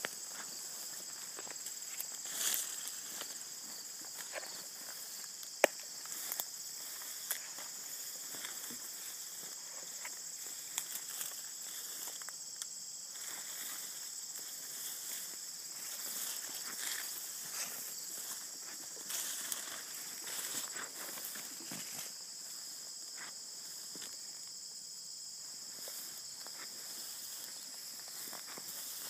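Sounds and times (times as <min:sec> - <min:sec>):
footsteps through dry grass: 0:00.0 - 0:12.4, 0:13.1 - 0:24.3, 0:25.6 - 0:29.0
insect chorus: 0:00.0 - 0:29.0.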